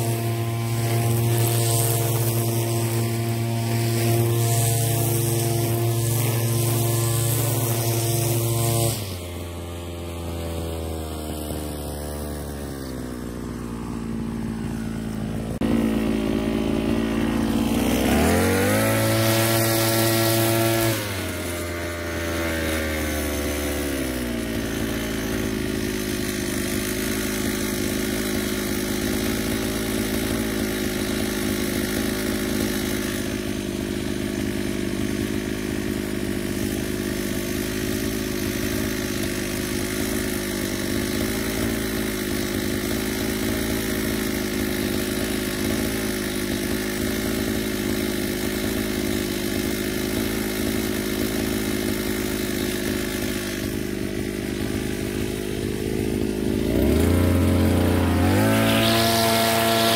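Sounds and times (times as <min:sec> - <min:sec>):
brush cutter engine running: 0:00.0 - 0:59.9
nylon line cutting grass: 0:00.0 - 0:59.9.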